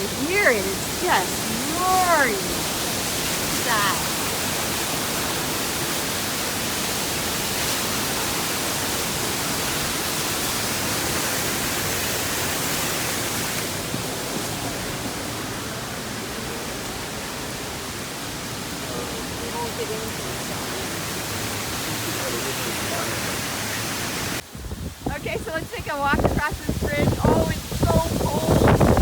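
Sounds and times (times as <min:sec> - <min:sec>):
waterfall roaring: 0:00.0 - 0:24.5, 0:25.2 - 0:29.0.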